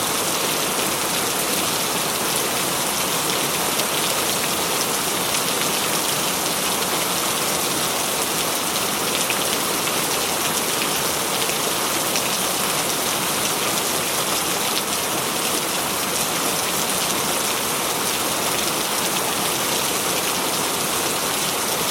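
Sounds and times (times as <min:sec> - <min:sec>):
heavy rain on a metal roof: 0:00.0 - 0:21.9.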